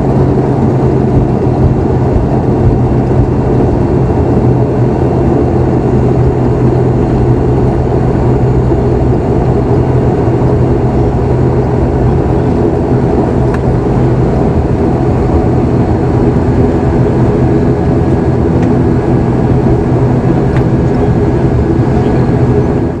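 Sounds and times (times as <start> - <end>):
turboprop engine drone in cabin: 0.0 - 23.0.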